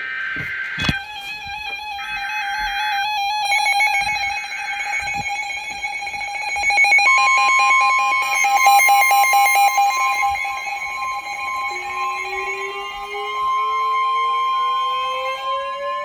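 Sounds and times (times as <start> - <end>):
steady warning tone: 0.0 - 16.0.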